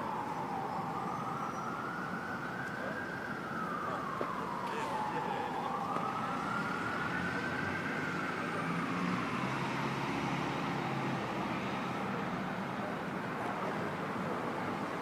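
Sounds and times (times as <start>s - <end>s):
siren wailing: 0.0s - 12.3s
street traffic: 0.0s - 15.0s.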